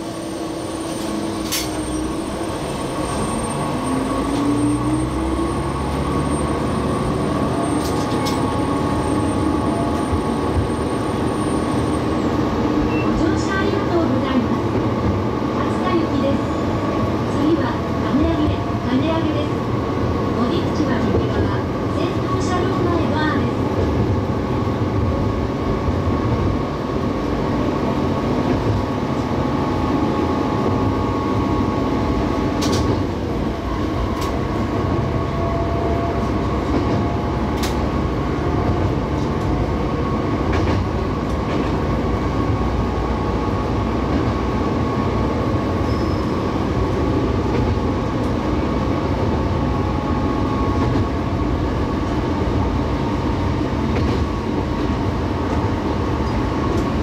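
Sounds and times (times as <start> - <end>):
railcar engine and wheel drone: 0.0 - 57.0.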